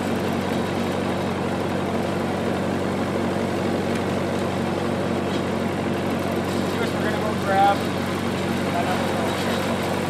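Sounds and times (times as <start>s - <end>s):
generator engine humming: 0.0s - 10.0s.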